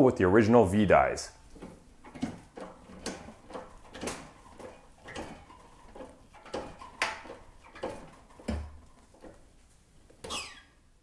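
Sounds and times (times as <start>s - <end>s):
hydraulic press clicks and creaks: 1.4s - 10.8s.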